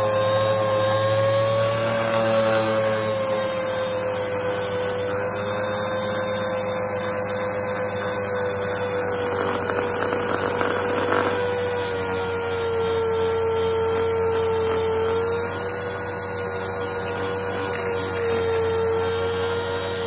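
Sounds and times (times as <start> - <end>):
sander whining against steel: 0.0 - 20.0.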